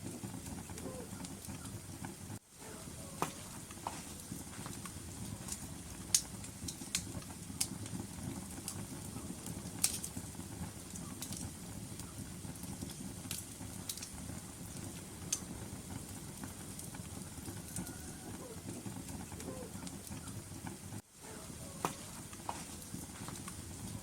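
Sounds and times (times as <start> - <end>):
low rumble of flames: 0.0 - 24.0
wood fire crackling: 0.0 - 24.0.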